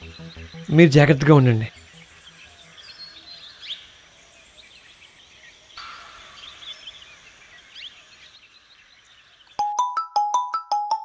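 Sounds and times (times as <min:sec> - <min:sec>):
small birds chirping: 0:00.0 - 0:09.7.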